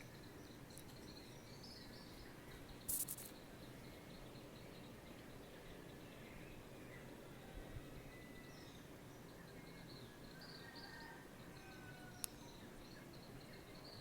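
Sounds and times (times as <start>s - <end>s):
low background hiss: 0.0s - 14.0s.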